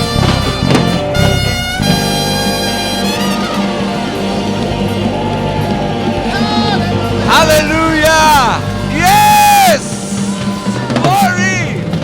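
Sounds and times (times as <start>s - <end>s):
worship band music: 0.0s - 12.0s.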